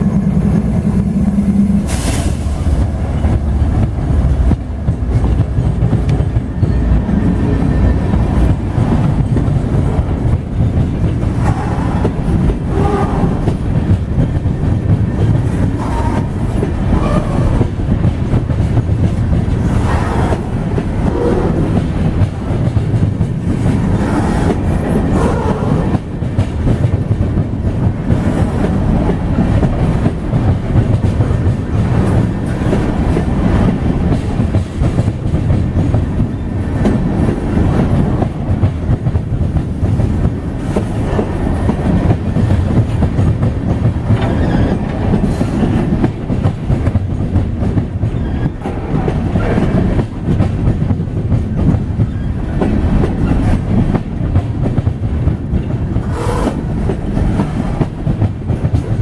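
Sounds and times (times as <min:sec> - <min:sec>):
freight train rumbling past: 0:00.0 - 0:59.0
wheels clattering over rails: 0:01.8 - 0:59.0.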